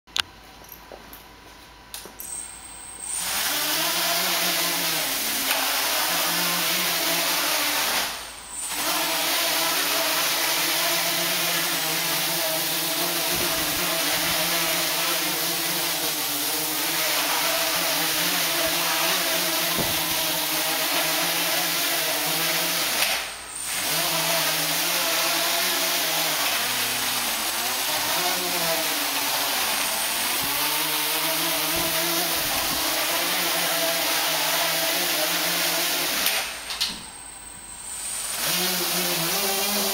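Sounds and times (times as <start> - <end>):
quadcopter motors whirring: 2.4 - 39.9.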